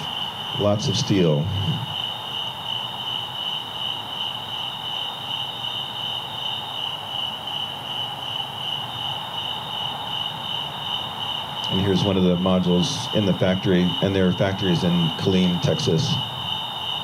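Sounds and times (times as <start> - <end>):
low background hiss: 0.0 - 17.0
night insects chirping: 0.0 - 17.0.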